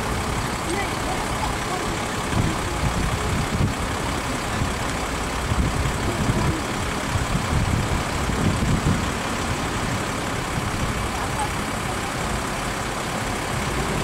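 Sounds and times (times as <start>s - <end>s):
low traffic rumble: 0.0s - 14.0s
vehicle engines running: 0.0s - 14.0s.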